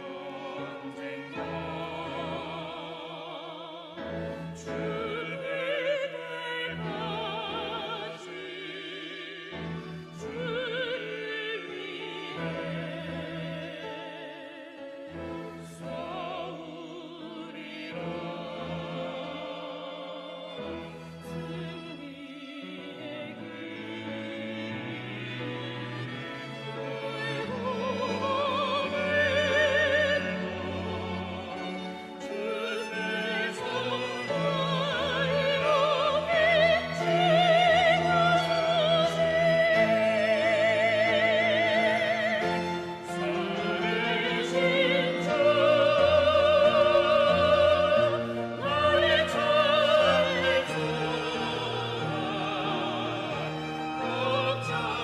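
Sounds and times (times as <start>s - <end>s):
solo voices singing a hymn: 0.0s - 55.0s
string ensemble: 0.0s - 55.0s.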